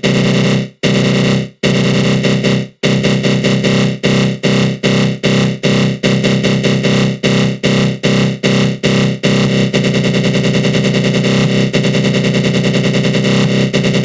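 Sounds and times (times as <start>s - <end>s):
harsh buzzing synth stabs: 0.0s - 14.0s.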